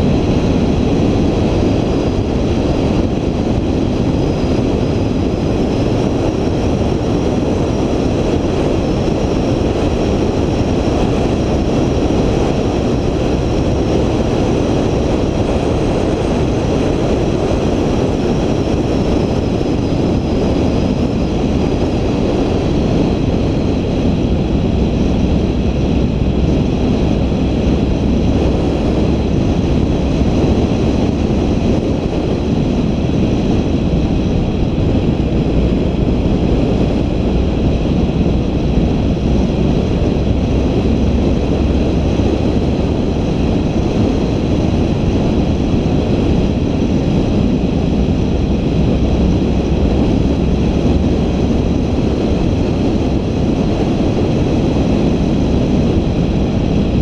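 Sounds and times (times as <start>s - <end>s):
vehicle rumble: 0.0s - 57.0s
wind noise on microphone: 0.0s - 57.0s.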